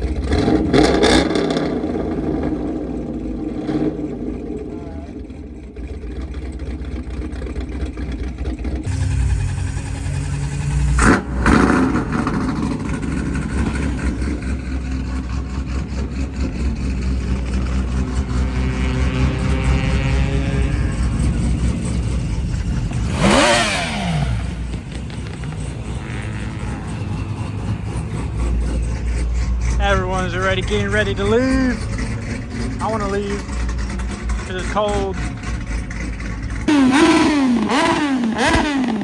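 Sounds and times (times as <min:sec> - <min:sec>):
car accelerating: 0:00.0 - 0:39.0
car engines revving and idling: 0:00.0 - 0:39.0.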